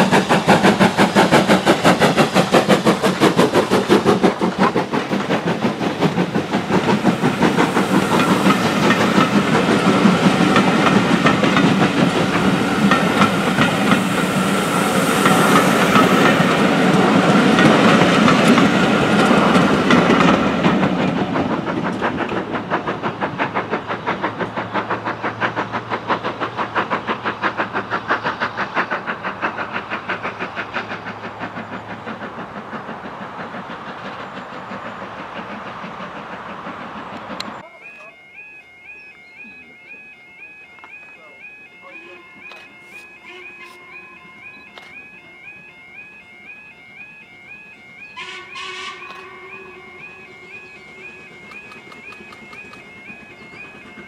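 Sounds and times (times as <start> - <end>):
steam locomotive exhaust beat: 0.0 - 54.0
wheels clicking over rail joints: 0.0 - 54.0.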